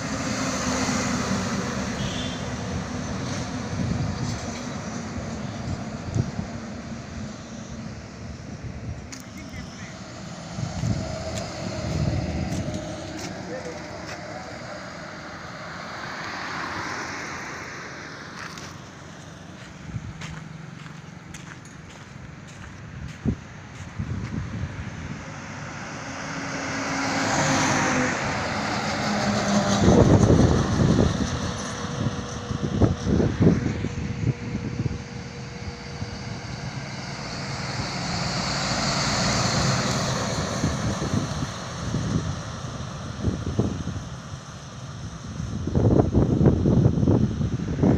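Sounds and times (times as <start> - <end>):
vehicle passing: 0.0 - 44.1
highway traffic rumble: 0.0 - 47.9
low engine hum: 0.0 - 47.9.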